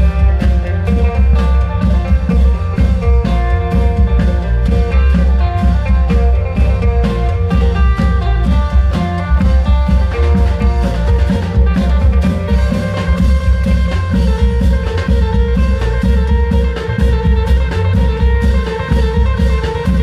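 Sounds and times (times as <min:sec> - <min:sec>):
heavy continuous drumming: 0:00.0 - 0:20.0
held melody line: 0:00.0 - 0:20.0.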